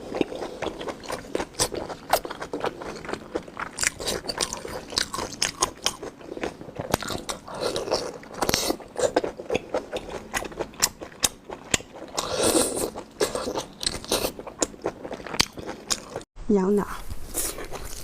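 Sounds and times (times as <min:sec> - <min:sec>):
person chewing crunchy food: 0:00.0 - 0:16.3, 0:17.0 - 0:18.0.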